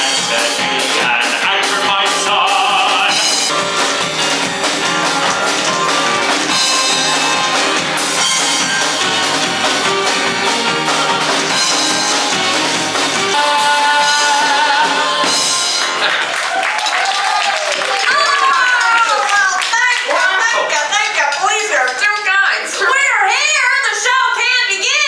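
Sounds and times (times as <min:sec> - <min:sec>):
upbeat live band music: 0:00.0 - 0:23.0.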